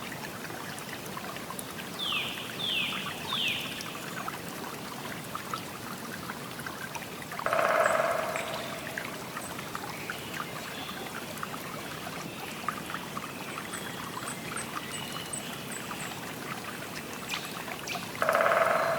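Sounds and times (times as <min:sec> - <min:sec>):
river water flowing: 0:00.0 - 0:18.9
small splashes and drips: 0:00.0 - 0:18.9.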